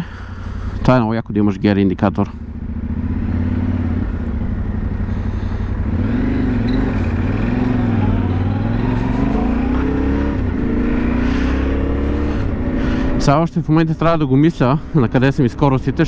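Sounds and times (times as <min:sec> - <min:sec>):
motorcycle engine on the road: 0:00.0 - 0:16.0.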